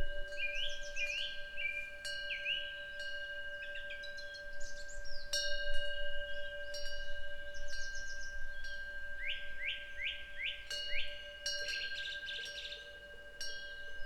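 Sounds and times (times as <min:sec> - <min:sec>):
wind bell ringing: 0:00.0 - 0:14.0.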